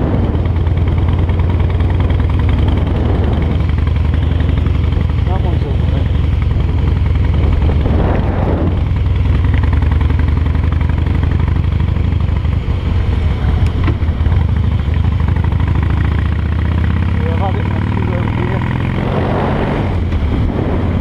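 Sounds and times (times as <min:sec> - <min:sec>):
motorcycle engine running steadily: 0:00.0 - 0:21.0.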